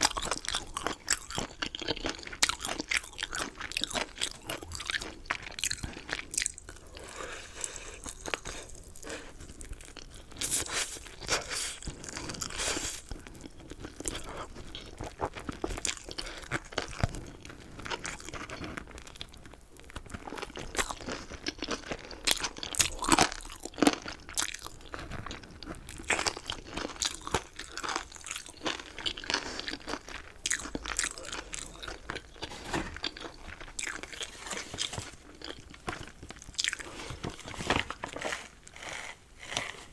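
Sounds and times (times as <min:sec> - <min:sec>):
crunching and chewing chicken: 0:00.0 - 0:39.9.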